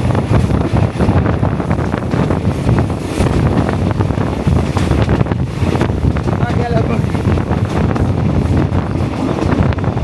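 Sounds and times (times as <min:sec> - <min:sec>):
train rumbling and rattling: 0:00.0 - 0:10.0
wind buffeting microphone: 0:00.0 - 0:10.0.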